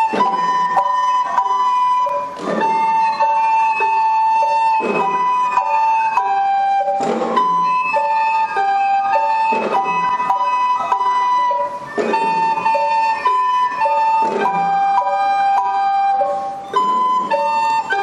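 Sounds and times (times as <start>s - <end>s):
heavy beat: 0.0s - 18.0s
mallet percussion: 0.0s - 18.0s
recorders playing a melody: 0.0s - 18.0s.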